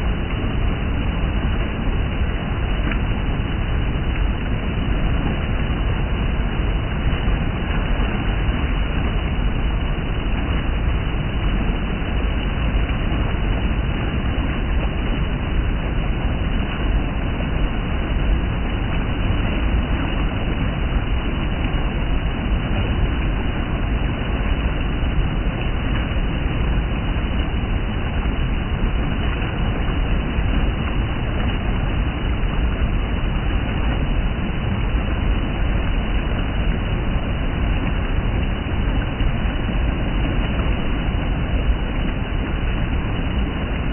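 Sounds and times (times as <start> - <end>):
deep rumble: 0.0 - 43.9
water rushing over rock: 0.0 - 43.9.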